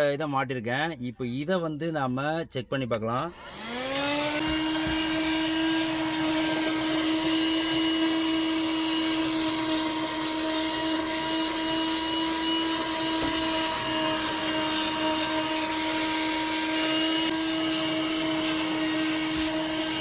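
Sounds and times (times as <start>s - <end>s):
car vacuum cleaner whining: 3.2s - 20.0s.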